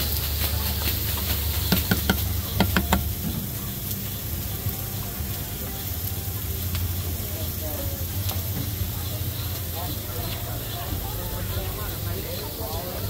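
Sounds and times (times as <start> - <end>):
food sizzling on a grill: 0.0 - 13.0.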